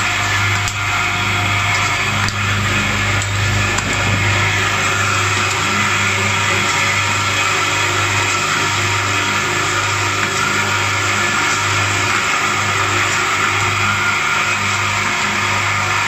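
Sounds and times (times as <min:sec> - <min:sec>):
vibratory bowl feeders humming: 0:00.0 - 0:16.0.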